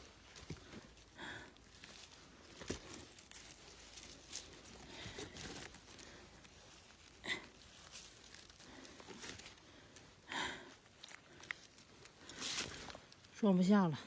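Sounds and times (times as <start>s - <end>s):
rustling leaf litter and twigs: 0.0s - 14.0s.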